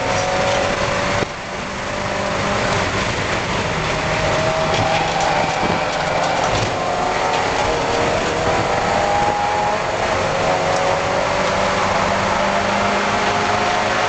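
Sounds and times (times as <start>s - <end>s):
race car engine: 0.0s - 14.0s
wind and road noise: 0.0s - 14.0s.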